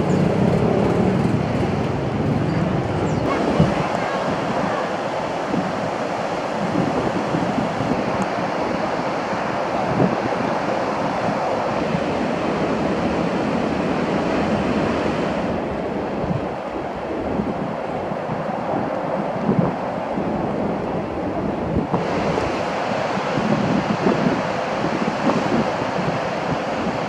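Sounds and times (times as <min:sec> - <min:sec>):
ocean surf breaking: 0:00.0 - 0:27.0
wind on microphone: 0:00.0 - 0:27.0.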